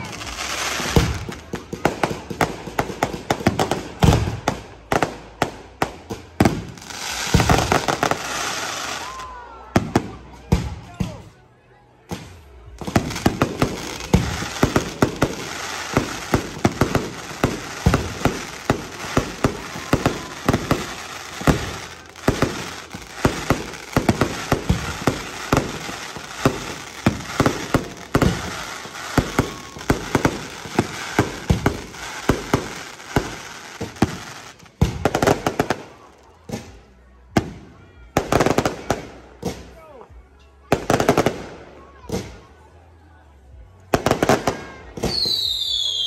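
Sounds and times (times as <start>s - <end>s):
fireworks bursts and bangs: 0.0s - 11.4s, 12.0s - 42.8s, 43.4s - 46.0s
fireworks crackling: 0.0s - 11.4s, 12.1s - 39.8s, 43.8s - 46.0s.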